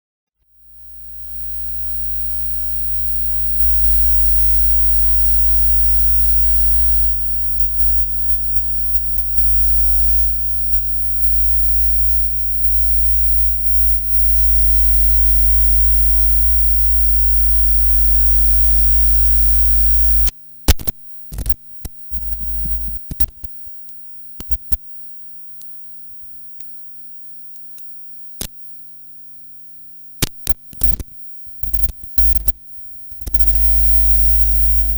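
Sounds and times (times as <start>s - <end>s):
crackles and pops: 0.6s - 34.9s.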